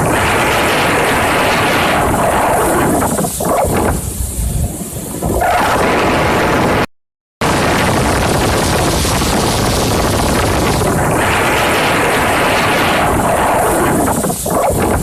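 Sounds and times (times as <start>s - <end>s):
surf: 0.0s - 15.0s
wind: 0.0s - 15.0s.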